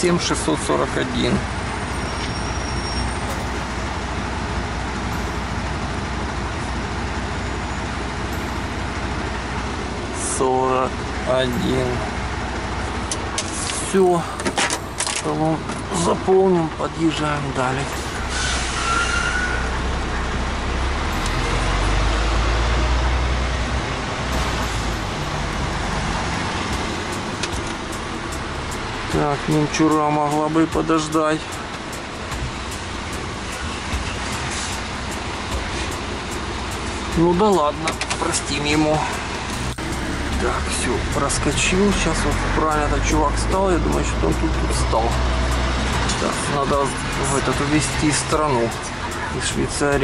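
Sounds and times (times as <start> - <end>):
road noise: 0.0 - 50.0
truck engine rumbling: 0.0 - 50.0.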